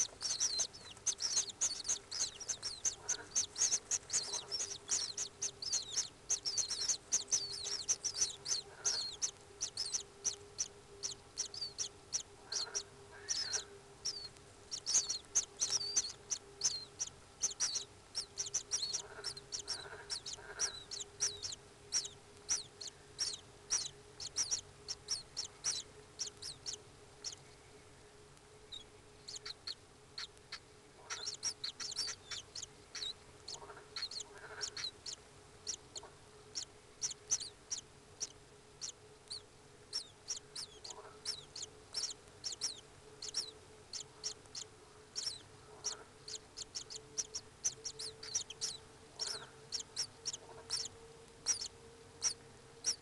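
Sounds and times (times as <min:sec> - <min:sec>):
kingfisher calls: 0:00.0 - 0:27.4, 0:29.3 - 0:37.5, 0:45.2 - 0:50.9, 0:51.5 - 0:53.0
faint steady hum: 0:00.0 - 0:53.0.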